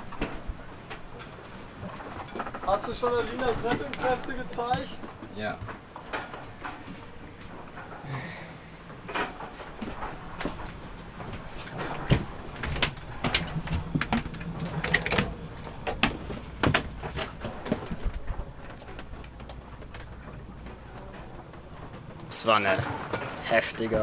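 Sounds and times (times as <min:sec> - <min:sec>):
gear clicking and knocking: 0:00.0 - 0:06.8, 0:08.8 - 0:24.0
short creaks: 0:00.3 - 0:24.0.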